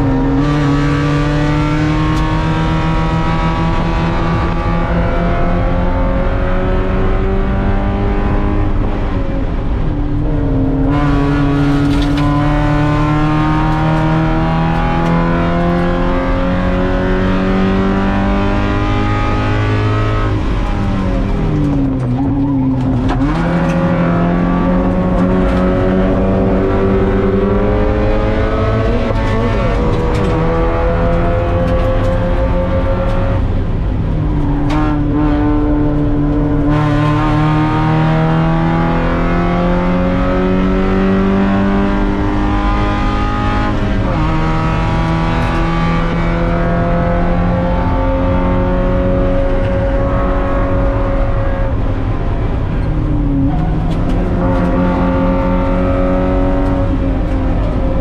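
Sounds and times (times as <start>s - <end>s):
racing car engine accelerating: 0.0s - 58.0s.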